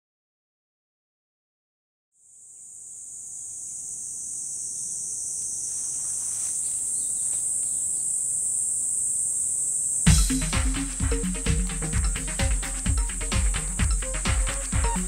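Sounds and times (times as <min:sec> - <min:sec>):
cicadas buzzing: 0:02.2 - 0:15.0.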